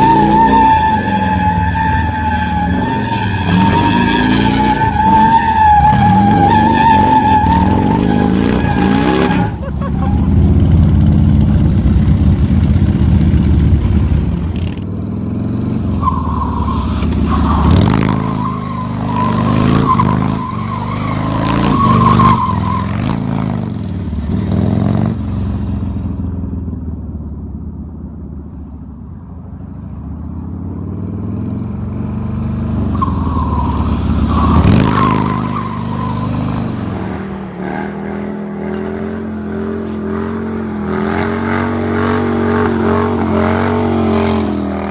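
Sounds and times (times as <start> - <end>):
tire squealing: 0.0 - 14.8, 15.8 - 25.2, 29.6 - 44.9
motorcycle engines revving: 0.0 - 26.8, 30.4 - 44.9.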